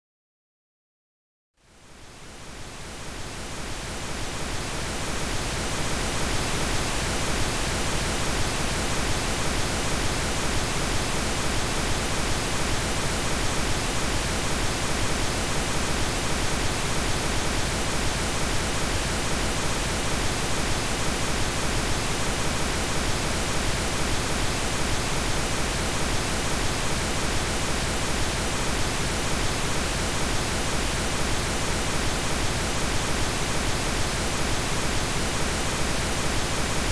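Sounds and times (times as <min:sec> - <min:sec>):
pink noise hiss: 0:01.6 - 0:36.9.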